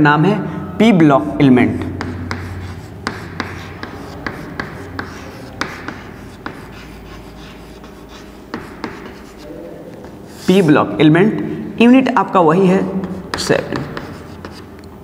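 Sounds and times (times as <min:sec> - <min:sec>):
chalk tapping and scratching: 0:01.1 - 0:11.6, 0:12.6 - 0:14.8.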